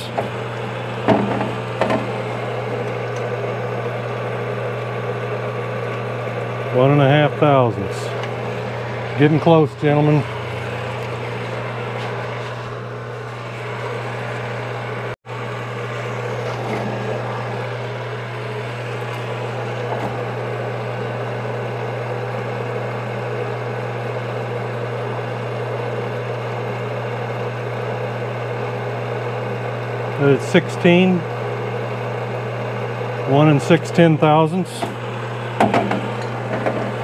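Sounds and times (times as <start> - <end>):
honing machine humming: 0.0 - 37.0.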